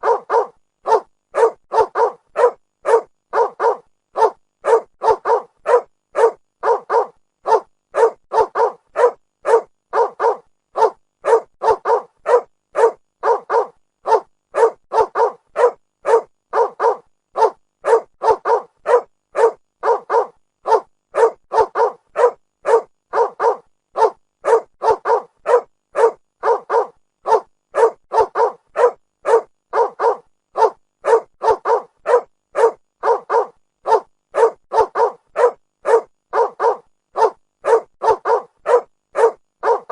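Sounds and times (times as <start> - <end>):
dog barking: 0.0 - 39.9.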